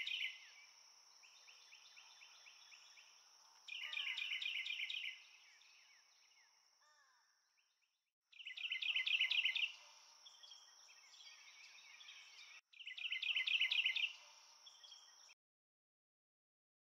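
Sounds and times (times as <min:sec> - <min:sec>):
songbird chirping: 0:00.0 - 0:15.4.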